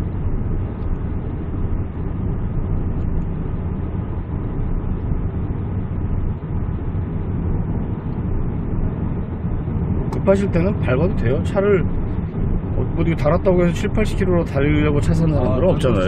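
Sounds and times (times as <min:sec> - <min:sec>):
tyre and engine rumble in car: 0:00.0 - 0:16.0.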